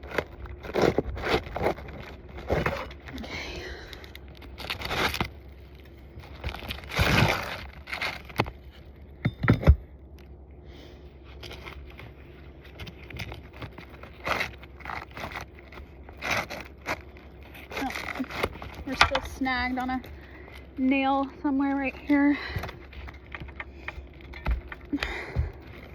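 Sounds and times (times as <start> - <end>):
roof shingles scraping and crackling: 0.0 - 9.2, 11.2 - 25.9.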